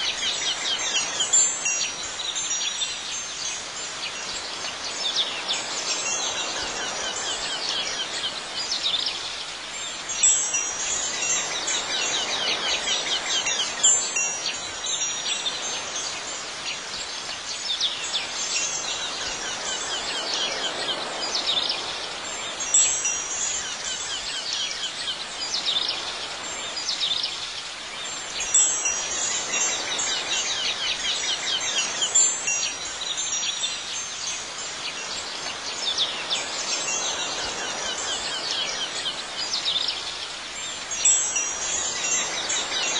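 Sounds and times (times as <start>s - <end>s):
soft steady hiss: 0.0s - 42.9s.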